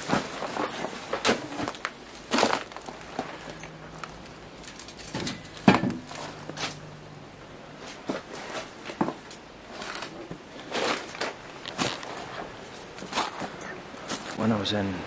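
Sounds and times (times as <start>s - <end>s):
footsteps crunching over rubble: 0.0s - 6.9s, 7.7s - 14.4s.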